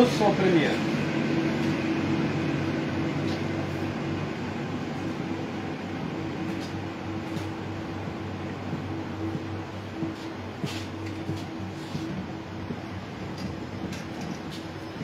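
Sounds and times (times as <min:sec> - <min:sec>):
air-conditioning hum: 0:00.0 - 0:15.0.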